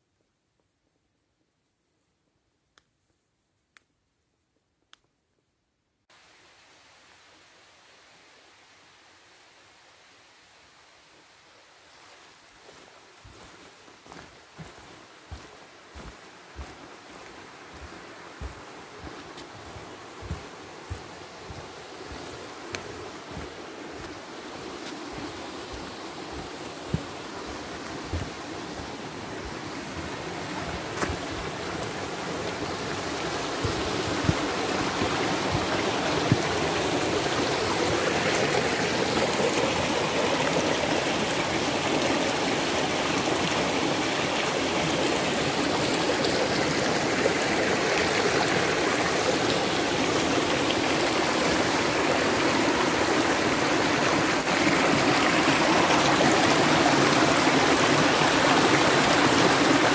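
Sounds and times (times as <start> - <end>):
stream water rushing: 6.2 - 59.9.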